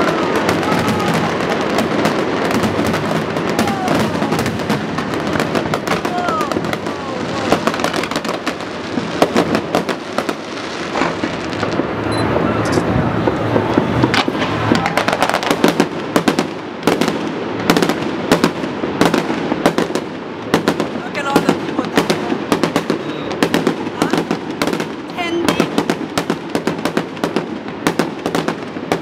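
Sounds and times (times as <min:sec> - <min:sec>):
fireworks crackling and banging: 0:00.0 - 0:29.0
sharp fireworks bangs: 0:00.0 - 0:29.0.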